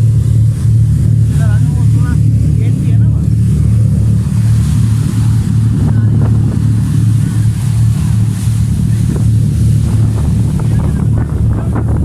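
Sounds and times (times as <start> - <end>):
ship engines humming: 0.0 - 12.0.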